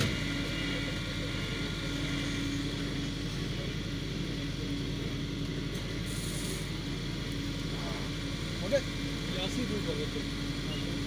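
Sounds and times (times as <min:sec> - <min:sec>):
fire engine humming: 0:00.0 - 0:11.0.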